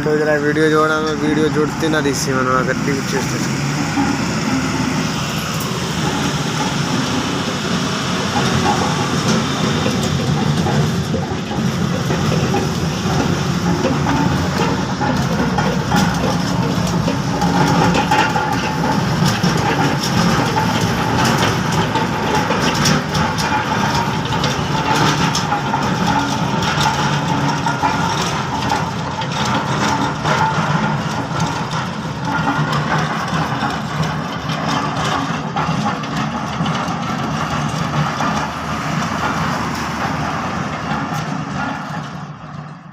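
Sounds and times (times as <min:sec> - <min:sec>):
bulldozer diesel engine running: 0:00.0 - 0:42.9
metal cracks and clanks: 0:00.0 - 0:42.9.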